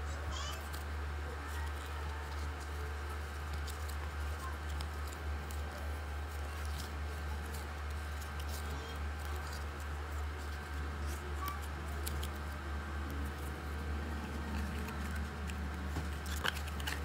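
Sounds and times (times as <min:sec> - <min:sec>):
steady low hum: 0:00.0 - 0:17.0
paper rustling: 0:00.4 - 0:17.0.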